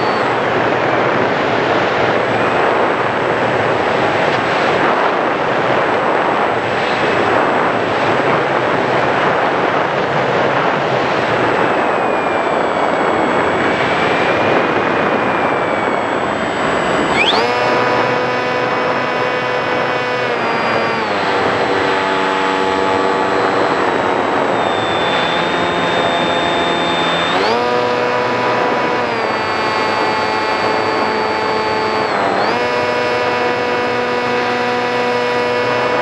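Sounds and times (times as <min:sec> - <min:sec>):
electric motor whine: 0:00.0 - 0:36.0.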